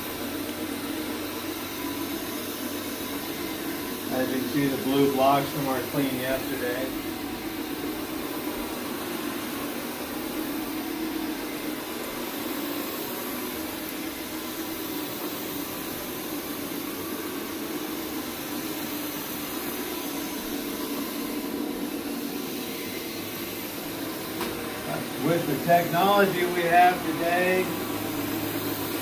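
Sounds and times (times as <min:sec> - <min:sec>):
brushes scrubbing carpet: 0:00.0 - 0:06.8, 0:11.4 - 0:29.0
carpet scrubber motor humming: 0:00.0 - 0:29.0.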